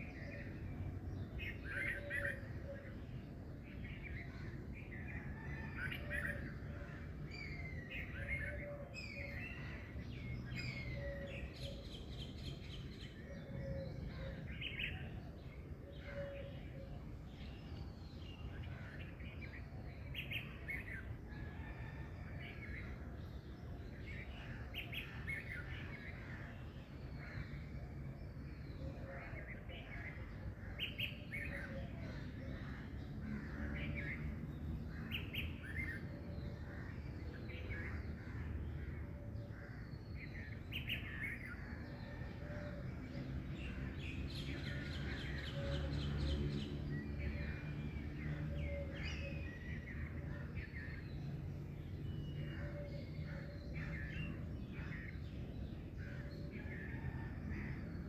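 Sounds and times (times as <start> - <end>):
wild birds chirping and calling: 0.0 - 58.0.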